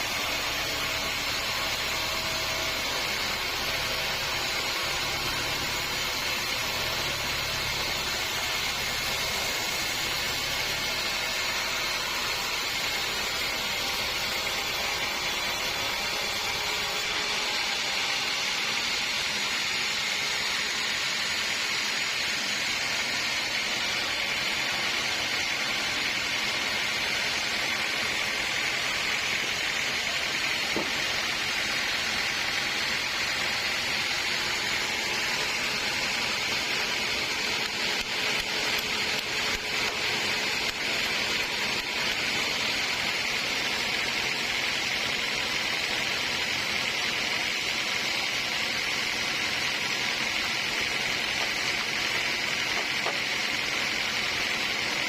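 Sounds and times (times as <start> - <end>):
sawmill blade cutting log: 0.0 - 55.0.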